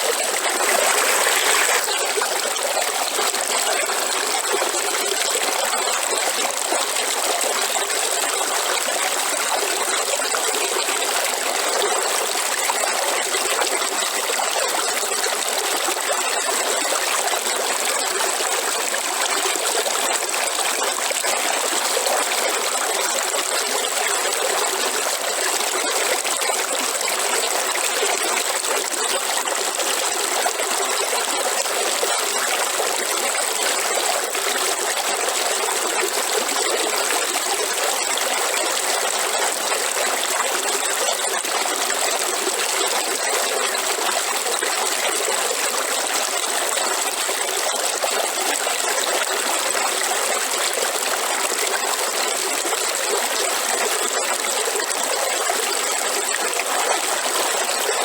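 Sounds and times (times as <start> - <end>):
stream water rushing and trickling: 0.0 - 58.0.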